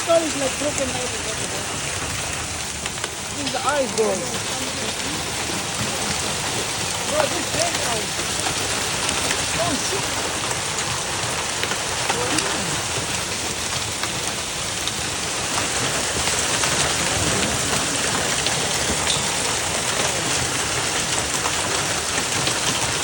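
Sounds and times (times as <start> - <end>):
hailstones ticking: 0.0 - 23.0
heavy rain hiss: 0.0 - 23.0.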